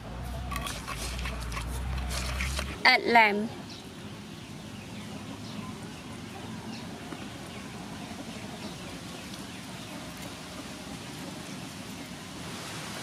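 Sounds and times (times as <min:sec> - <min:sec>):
outdoor background hiss: 0:00.0 - 0:13.0
small birds chirping: 0:00.2 - 0:11.0.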